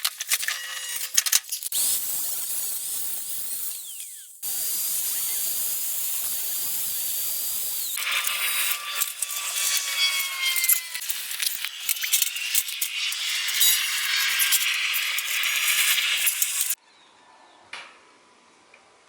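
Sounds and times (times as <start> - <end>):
welding hiss: 1.0 - 16.8.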